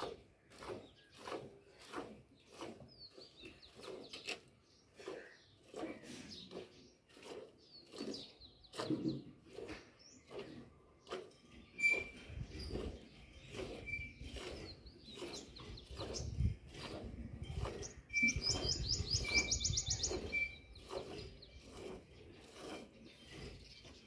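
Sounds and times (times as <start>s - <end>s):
milk squirting into steel bucket: 0.0s - 24.0s
small birds chirping: 0.0s - 24.0s.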